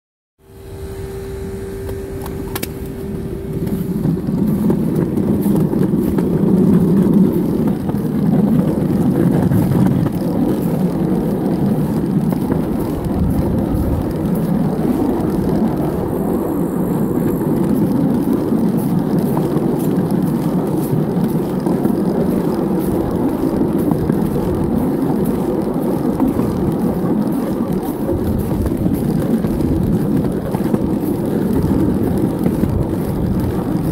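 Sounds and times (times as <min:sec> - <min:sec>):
steady high whine: 0:00.4 - 0:33.9
wheels rumbling on rails: 0:00.4 - 0:33.9.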